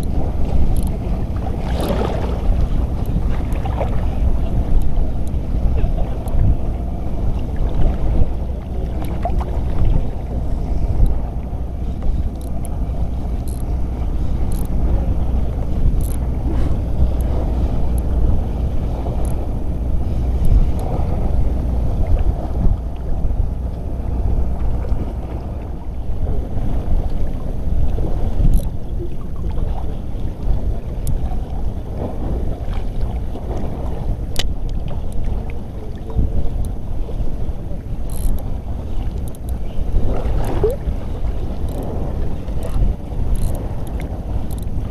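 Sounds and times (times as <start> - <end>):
wind rumble on microphone: 0.0 - 44.9.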